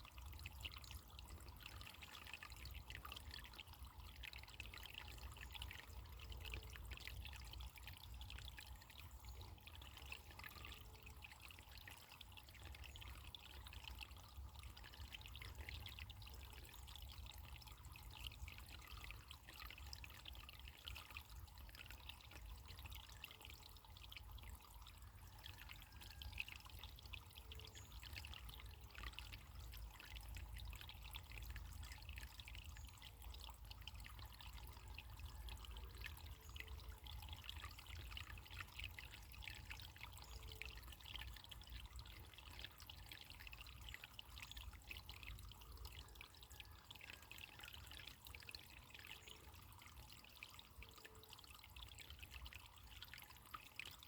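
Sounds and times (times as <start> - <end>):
trickling running water: 0.0 - 54.0.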